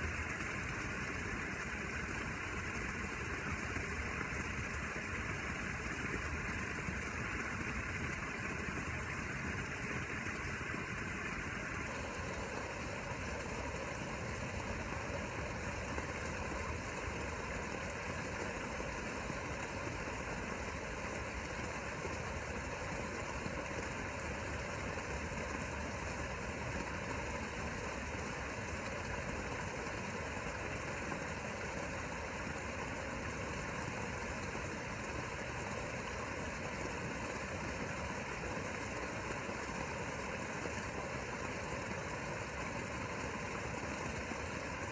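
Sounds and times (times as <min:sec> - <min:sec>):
pool filter pump running: 0:00.0 - 0:44.9.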